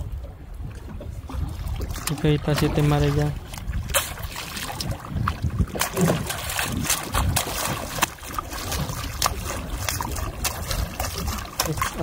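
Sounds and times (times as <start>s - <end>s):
water splashing against boat: 0.0s - 12.0s
stingray flapping in water: 1.2s - 12.0s.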